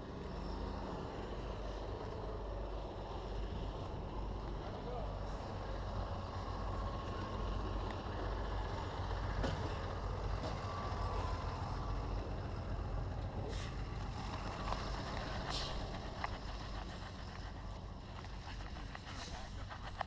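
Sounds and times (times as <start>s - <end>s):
heavy machine rumbling: 0.0s - 20.0s.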